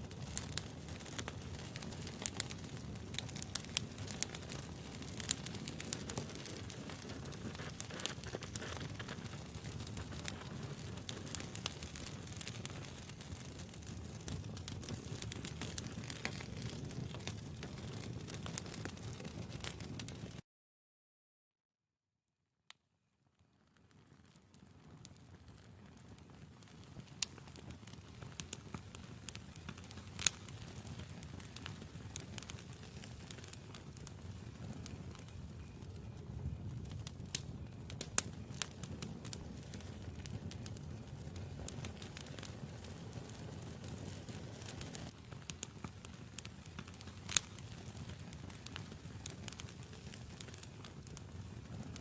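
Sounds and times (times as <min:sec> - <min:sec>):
campfire pops and snaps: 0:00.0 - 0:20.3, 0:24.2 - 0:52.0
low rumble of burning: 0:00.0 - 0:20.4, 0:23.4 - 0:52.0.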